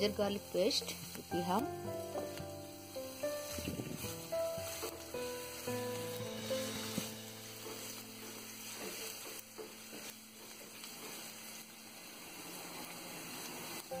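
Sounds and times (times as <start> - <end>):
spices sizzling in oil: 0.0 - 14.0.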